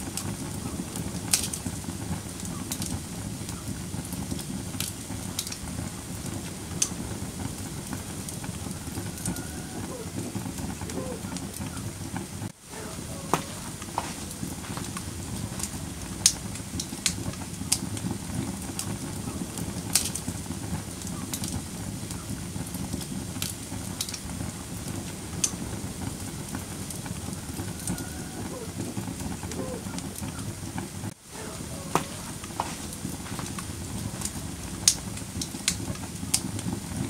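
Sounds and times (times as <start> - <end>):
low rumble of flames: 0.0 - 37.0
wood fire crackling and popping: 0.0 - 37.0.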